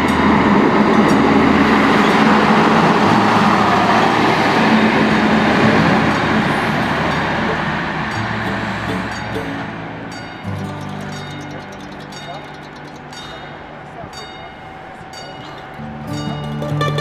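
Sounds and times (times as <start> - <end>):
diesel railcar engine: 0.0 - 17.0
wheels on rails: 0.0 - 17.0.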